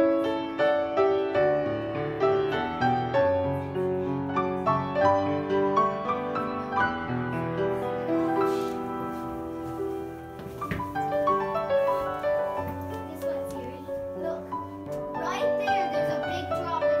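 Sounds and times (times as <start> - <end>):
piano melody: 0.0 - 17.0.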